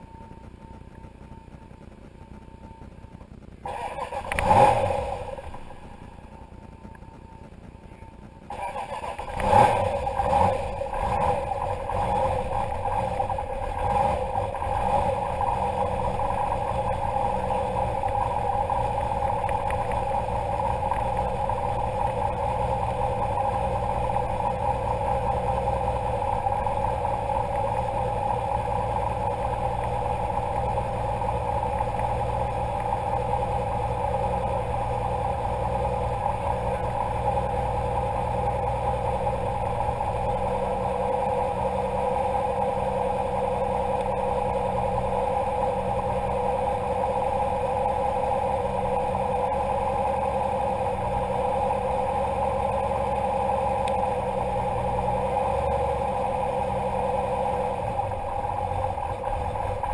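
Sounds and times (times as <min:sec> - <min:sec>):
car engine revving and idling: 0:00.0 - 0:59.9.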